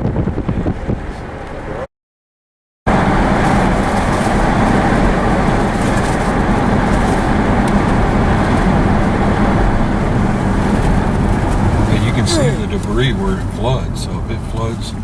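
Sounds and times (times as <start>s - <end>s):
car engine and road noise: 0.0s - 1.9s, 2.9s - 15.0s.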